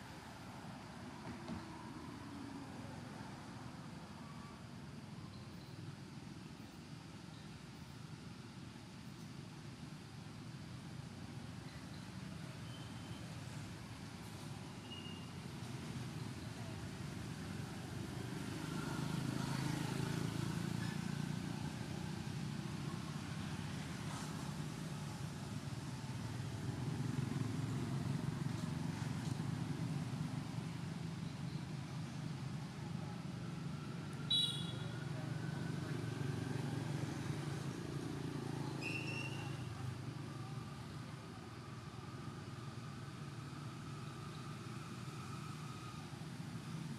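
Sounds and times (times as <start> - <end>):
traffic rumble: 6.0 - 46.9.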